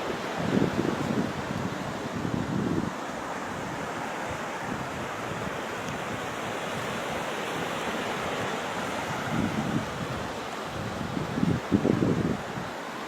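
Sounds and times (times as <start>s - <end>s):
wind buffeting microphone: 0.0s - 12.8s
sea surf rushing on shore: 0.0s - 13.0s.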